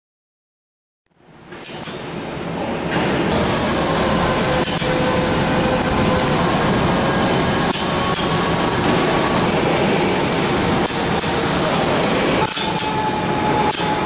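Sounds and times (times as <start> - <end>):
faint steady whines: 1.1 - 14.0
machinery running: 2.2 - 14.0.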